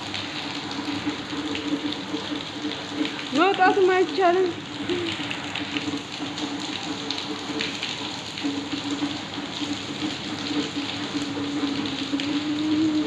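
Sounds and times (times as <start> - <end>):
heavy rain on tiles: 0.0 - 13.0.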